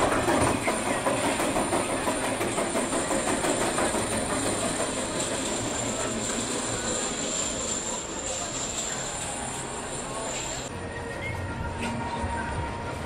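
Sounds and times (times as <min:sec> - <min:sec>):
roller coaster lift chain clattering: 0:00.0 - 0:10.7.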